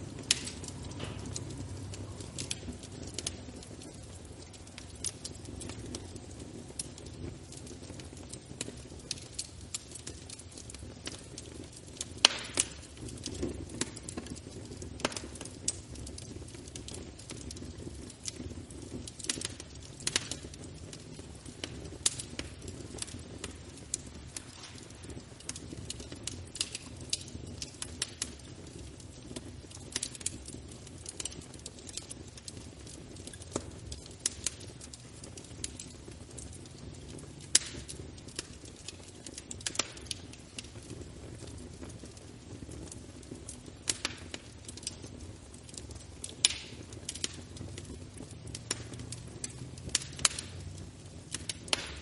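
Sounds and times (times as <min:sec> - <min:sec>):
fire crackles and pops: 0:00.0 - 0:52.0
fire flames rumbling: 0:00.0 - 0:52.0.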